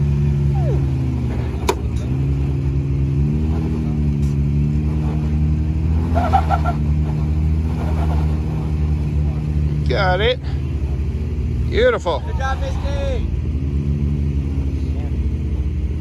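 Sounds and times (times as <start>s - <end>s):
engine working under load: 0.0s - 16.0s.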